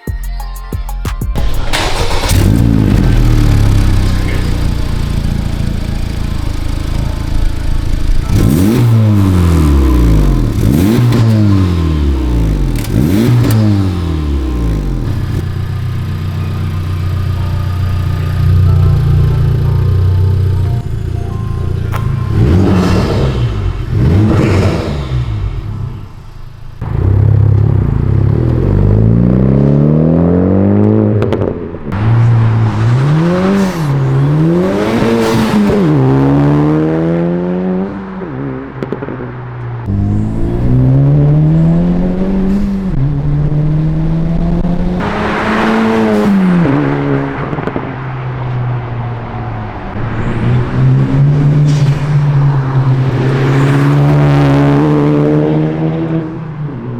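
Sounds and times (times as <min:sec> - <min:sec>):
car exhaust accelerating: 0:01.4 - 0:56.9.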